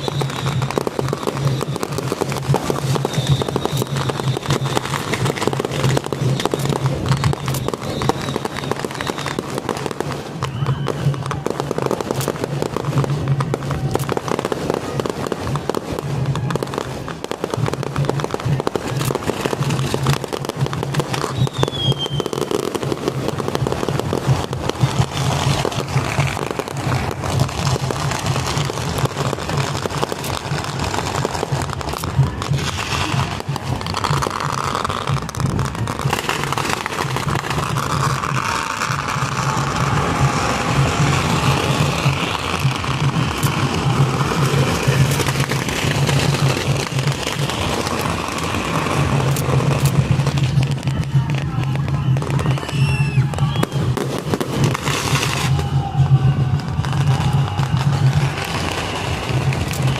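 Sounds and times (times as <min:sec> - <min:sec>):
firecrackers going off: 0:00.0 - 0:59.9.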